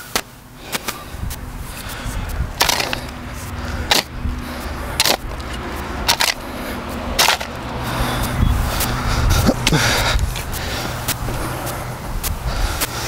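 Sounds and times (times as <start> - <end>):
low engine hum: 0.0 - 13.0
shovel scraping through soil: 0.1 - 13.0.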